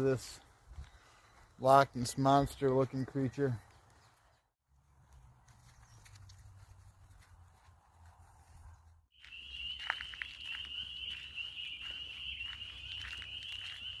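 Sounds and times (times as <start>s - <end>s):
footsteps on a trail: 0.0s - 14.0s.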